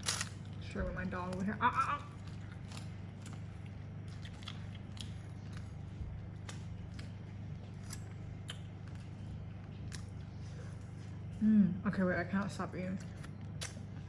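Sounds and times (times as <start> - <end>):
chewing crunchy food: 0.0 - 11.4, 12.2 - 14.0
steady low hum: 0.0 - 14.0.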